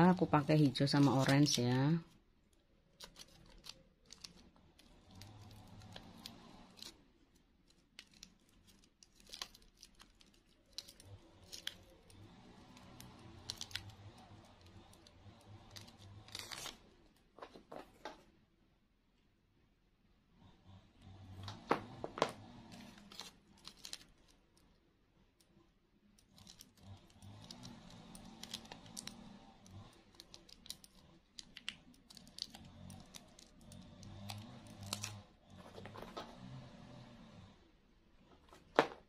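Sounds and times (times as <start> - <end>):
plastic tape crinkling: 0.1 - 17.8, 21.5 - 24.8, 26.2 - 36.5.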